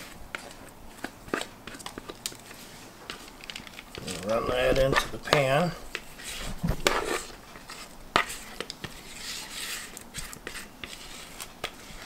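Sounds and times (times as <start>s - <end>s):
spatula scraping batter in bowl: 0.0s - 12.0s.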